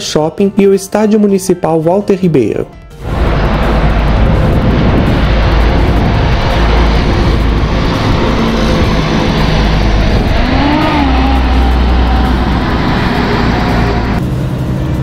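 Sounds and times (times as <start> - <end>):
engine note rising and falling: 0.0 - 15.0
low rumble of traffic: 0.0 - 15.0
bus engine running: 2.5 - 15.0.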